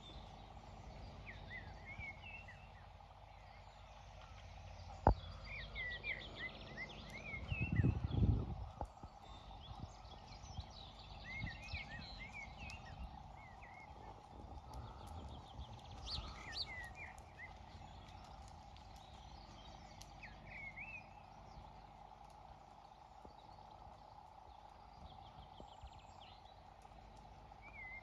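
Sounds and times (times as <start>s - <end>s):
faint low outdoor rumble: 0.0s - 28.0s
small songbirds chirping: 0.0s - 28.0s.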